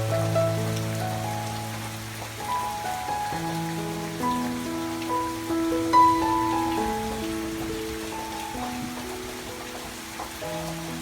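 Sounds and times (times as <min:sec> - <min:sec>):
calm background music: 0:00.0 - 0:11.0
rain-like hiss: 0:00.0 - 0:11.0.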